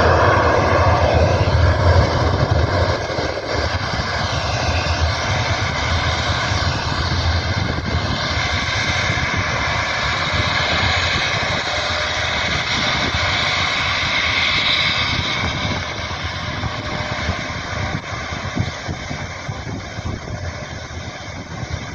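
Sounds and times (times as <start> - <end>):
jet engines rumbling and whining: 0.0 - 21.9.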